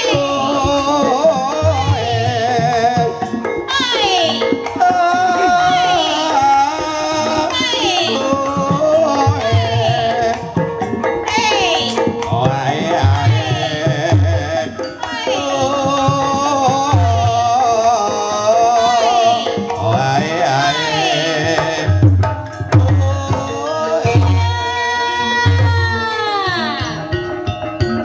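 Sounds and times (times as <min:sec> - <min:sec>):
person singing ornamented melody: 0:00.0 - 0:10.6, 0:11.2 - 0:22.0, 0:22.6 - 0:27.1
hand-drum strokes: 0:00.0 - 0:28.0
held ringing tone: 0:00.0 - 0:28.0.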